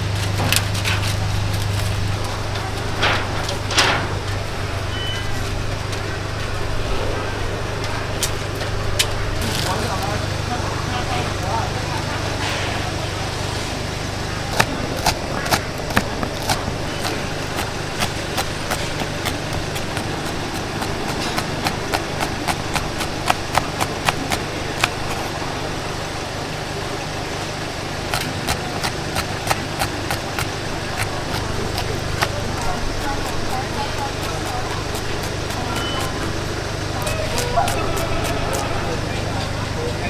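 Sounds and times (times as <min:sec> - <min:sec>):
steady low roar: 0:00.0 - 0:40.0.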